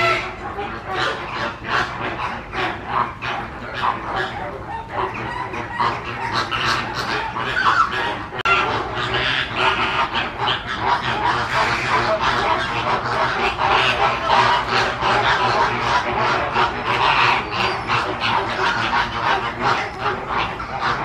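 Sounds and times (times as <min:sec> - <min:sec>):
chorus of birds calling: 0:00.0 - 0:21.0.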